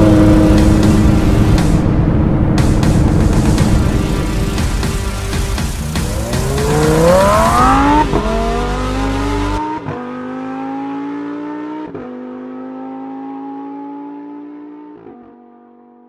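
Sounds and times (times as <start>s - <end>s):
sports car engine accelerating: 0.0s - 16.0s.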